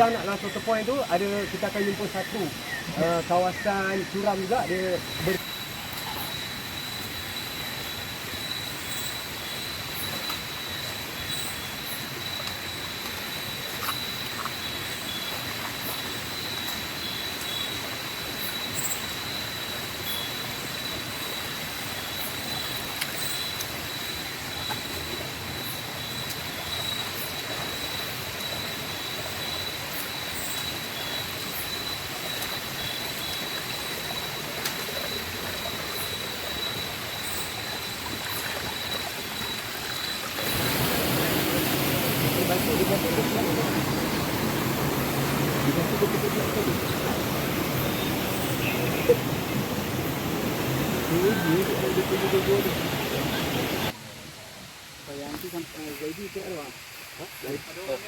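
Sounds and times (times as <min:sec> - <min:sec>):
insect chirps: 0:00.0 - 0:54.0, 0:54.7 - 0:58.0
hiss-like background: 0:00.0 - 0:58.0
insects high-pitched whine: 0:00.0 - 0:58.0.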